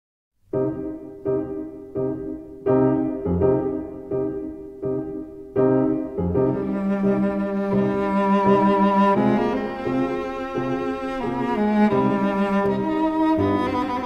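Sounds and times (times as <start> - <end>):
piano playing slow chords: 0.4 - 14.0.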